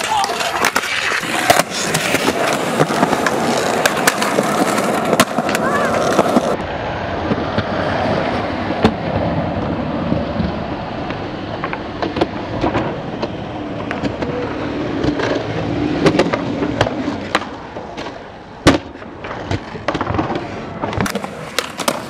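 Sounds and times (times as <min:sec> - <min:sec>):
skateboard clacking on ground: 0:00.0 - 0:06.6, 0:07.2 - 0:22.0
skateboard wheels rolling on concrete: 0:00.0 - 0:22.0.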